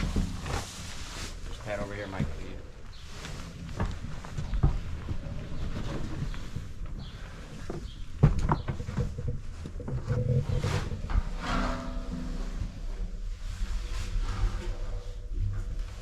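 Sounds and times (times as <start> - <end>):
knocks and scrapes: 0.0 - 16.0.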